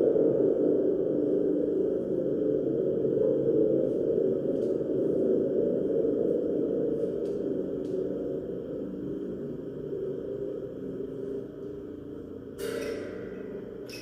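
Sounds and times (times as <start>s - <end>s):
ringing sound bath drone: 0.0s - 14.0s.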